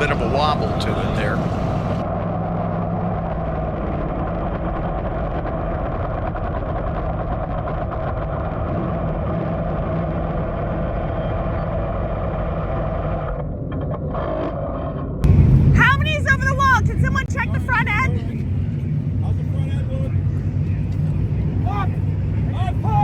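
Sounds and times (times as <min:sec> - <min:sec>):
engine running low drone: 0:00.0 - 0:23.0.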